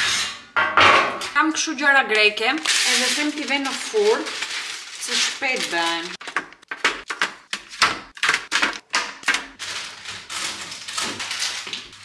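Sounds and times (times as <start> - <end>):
kitchen items clattering: 0.0 - 12.0.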